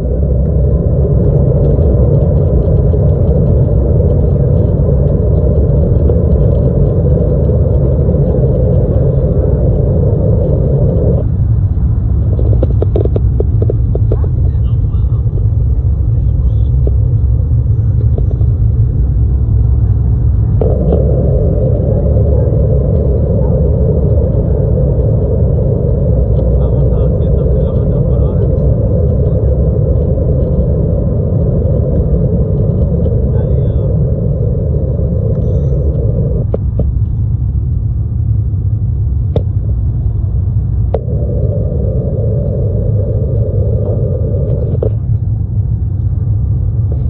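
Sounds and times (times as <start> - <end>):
airliner cabin engine rumble: 0.0 - 47.0
higher loud cabin noise: 0.0 - 47.0.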